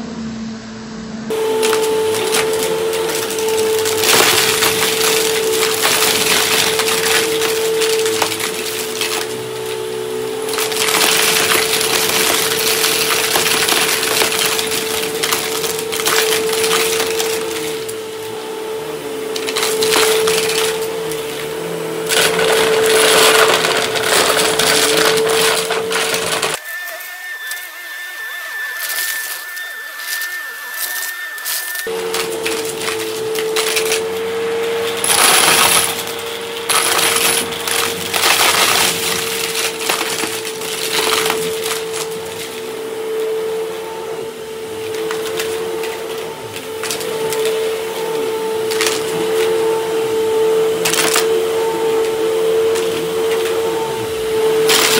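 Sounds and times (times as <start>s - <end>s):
vacuum cleaner motor hum: 0.0s - 54.9s
small pieces rattling through vacuum: 1.3s - 27.6s, 28.8s - 54.9s.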